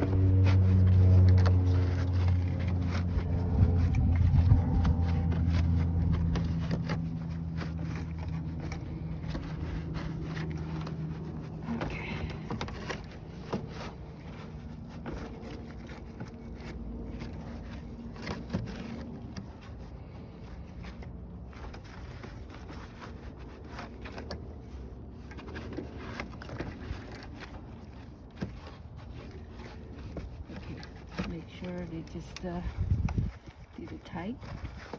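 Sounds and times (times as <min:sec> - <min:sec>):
low engine hum: 0:00.0 - 0:34.9.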